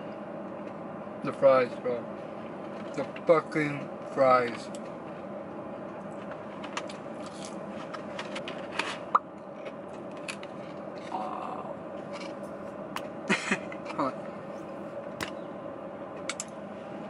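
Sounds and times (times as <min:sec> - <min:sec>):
steady hum inside a car: 0:00.0 - 0:17.0.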